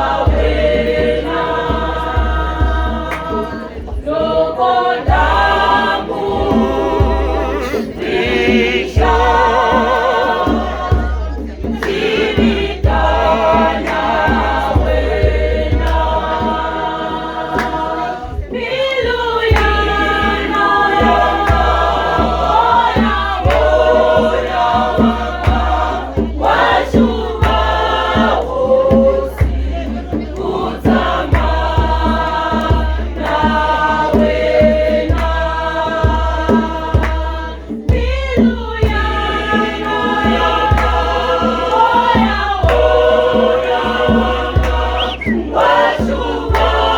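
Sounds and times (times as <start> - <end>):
choir singing gospel: 0.0 - 46.9
steady low beat: 0.0 - 46.9.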